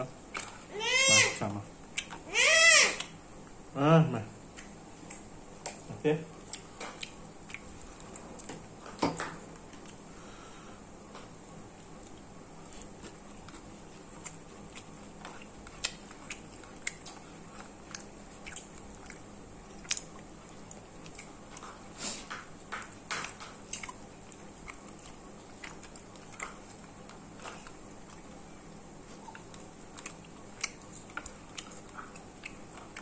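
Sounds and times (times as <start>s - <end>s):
person chewing and eating: 0.0s - 3.6s, 4.5s - 10.6s, 11.6s - 33.0s
faint steady hum: 0.0s - 33.0s.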